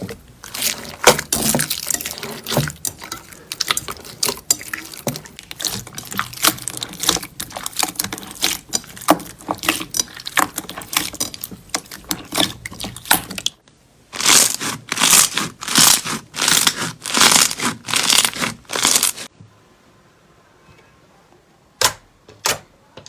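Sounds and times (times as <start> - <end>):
slime crackling and popping: 0.0 - 19.3
slime crunchy squishes: 0.0 - 19.3.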